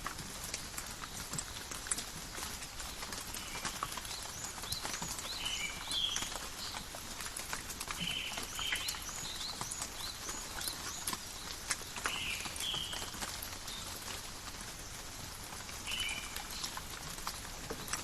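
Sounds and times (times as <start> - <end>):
raindrops ticking close by: 0.0 - 18.0
steady rain: 0.0 - 18.0.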